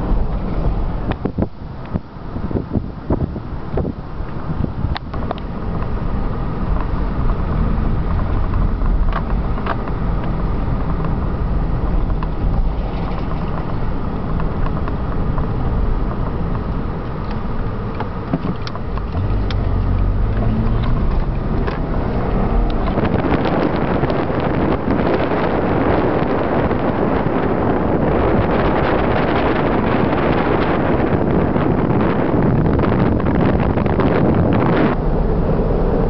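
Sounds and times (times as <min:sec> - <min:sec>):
car engine and tyre rumble: 0:00.0 - 0:36.0
wide rushing noise: 0:03.6 - 0:36.0.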